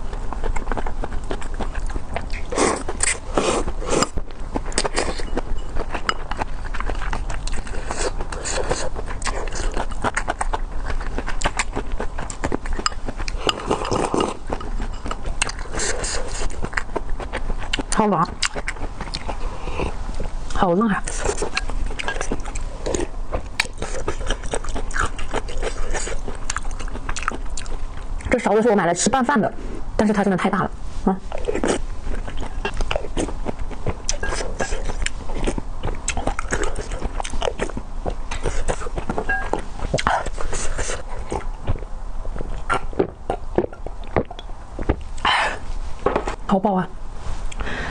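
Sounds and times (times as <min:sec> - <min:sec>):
chewing noodles: 0:00.0 - 0:28.4, 0:31.2 - 0:45.6.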